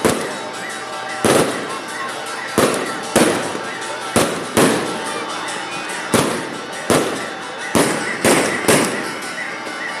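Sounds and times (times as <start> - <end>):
firework bangs: 0.0 - 1.9, 2.5 - 5.3, 5.9 - 9.3.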